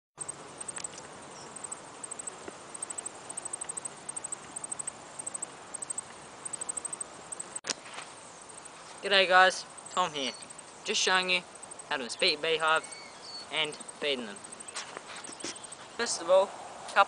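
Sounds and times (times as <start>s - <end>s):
faint outdoor hiss: 0.2s - 17.0s
insects chirping in trills: 0.2s - 17.0s.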